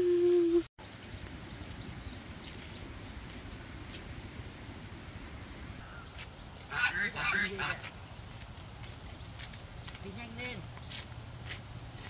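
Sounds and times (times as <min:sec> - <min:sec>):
crickets chirping: 0:00.8 - 0:12.0.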